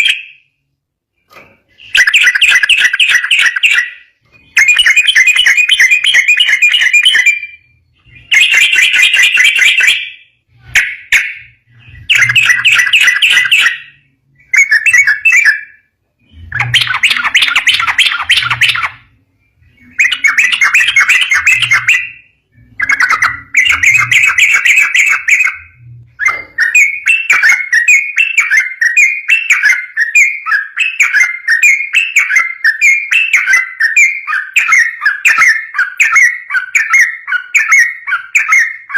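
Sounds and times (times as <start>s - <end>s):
bird singing loudly: 1.7s - 38.9s
fast run of repeated bird notes: 1.8s - 10.2s, 10.8s - 38.9s.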